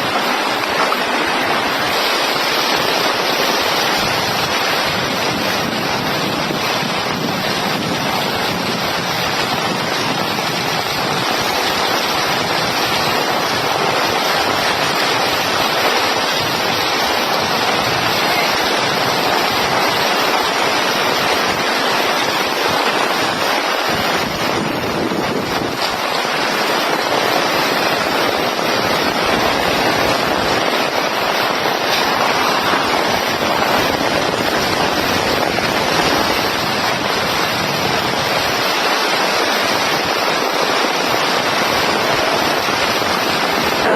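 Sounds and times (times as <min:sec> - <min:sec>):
surf rushing: 0:00.0 - 0:43.9
wind: 0:00.0 - 0:43.9.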